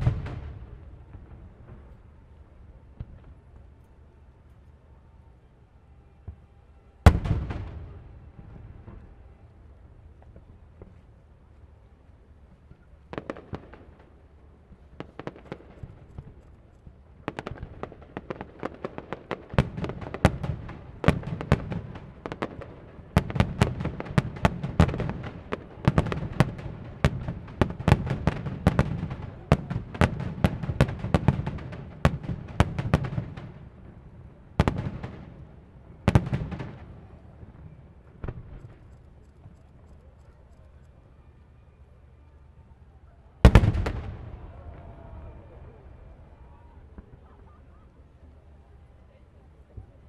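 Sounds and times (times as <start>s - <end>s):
fireworks bursting: 0.0s - 3.8s, 6.2s - 11.1s, 13.0s - 40.9s, 43.4s - 47.3s.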